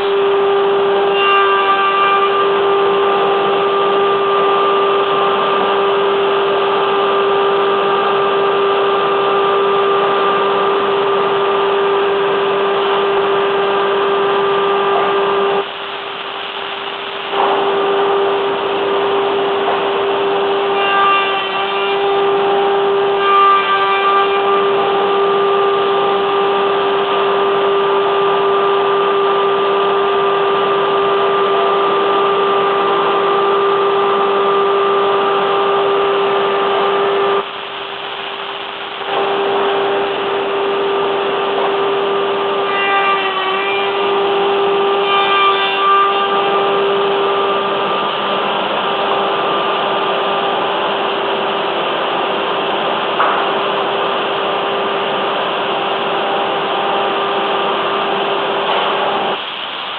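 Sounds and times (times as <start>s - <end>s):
machine whine: 0.0s - 59.9s
woodworking machinery humming: 0.0s - 59.9s.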